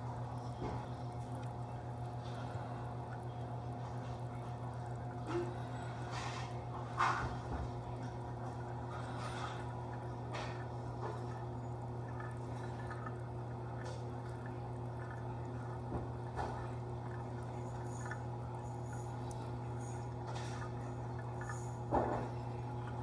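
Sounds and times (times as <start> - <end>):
steady low hum: 0.0 - 23.0
water trickling and dripping: 0.6 - 23.0.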